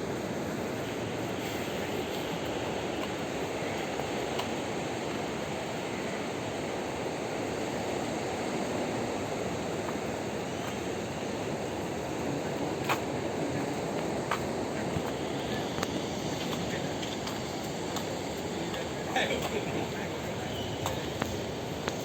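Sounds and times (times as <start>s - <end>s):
rain: 0.0s - 22.0s
sea surf: 0.0s - 22.0s.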